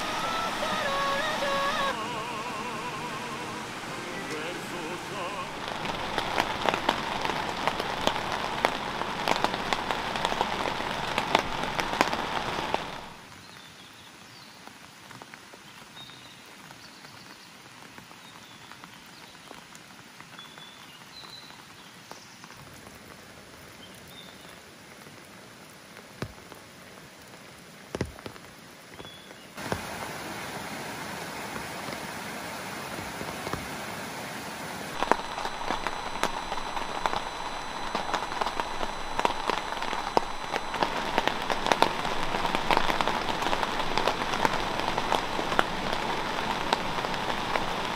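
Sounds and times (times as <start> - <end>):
rain pattering: 0.0 - 47.9
stream rushing over rocks: 0.0 - 47.9.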